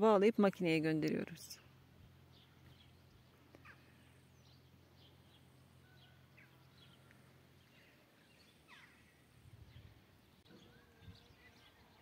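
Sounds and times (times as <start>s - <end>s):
faint bird chirps: 1.6s - 12.0s.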